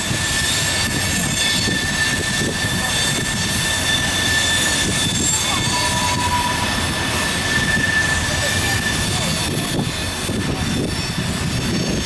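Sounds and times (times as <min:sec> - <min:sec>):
high wheel squeal: 0:00.0 - 0:12.0
lower wheel squeal: 0:00.0 - 0:12.0
train wheels rumbling on rail: 0:00.0 - 0:12.0.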